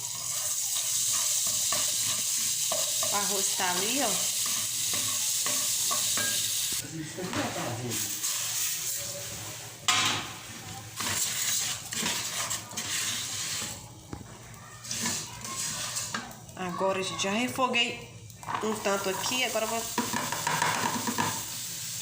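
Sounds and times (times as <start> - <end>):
spoon stirring in pan: 0.0 - 21.7
food sizzling in hot oil: 0.0 - 22.0.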